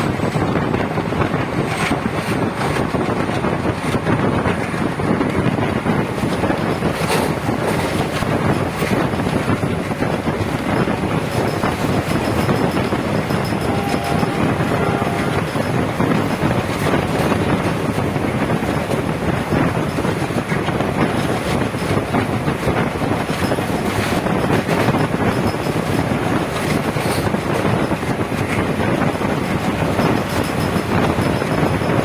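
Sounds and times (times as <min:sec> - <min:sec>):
train wheels rumbling on track: 0:00.0 - 0:32.0
wind rushing over microphone: 0:00.0 - 0:32.0.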